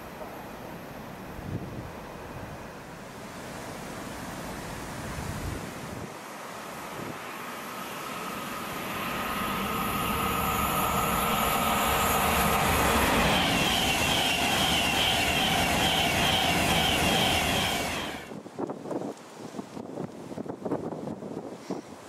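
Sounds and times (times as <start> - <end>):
train passing at speed: 0.0 - 18.4.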